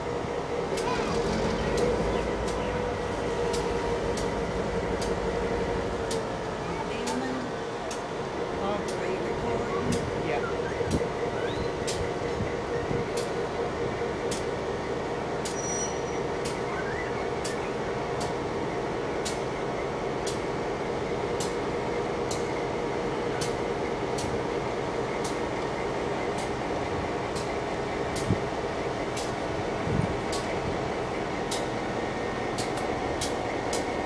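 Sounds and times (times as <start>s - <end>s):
diesel locomotive engine droning: 0.0s - 34.0s.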